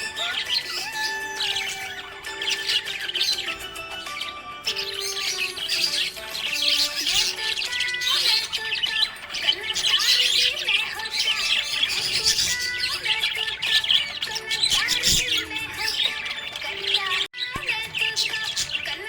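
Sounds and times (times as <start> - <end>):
budgerigars chirping and squawking: 0.0 - 19.0.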